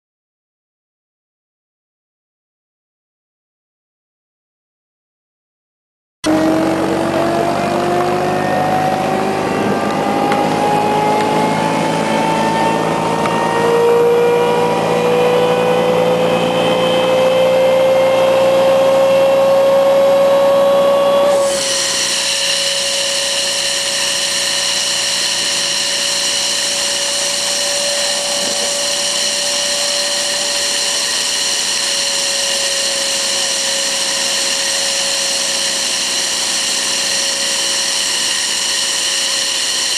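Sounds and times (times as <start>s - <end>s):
mulch blower fan whine: 6.2s - 39.9s.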